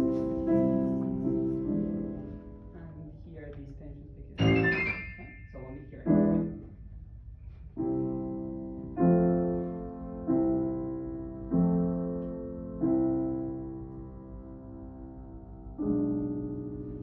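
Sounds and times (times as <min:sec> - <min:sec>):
piano chords: 0:00.0 - 0:07.1, 0:07.7 - 0:17.0.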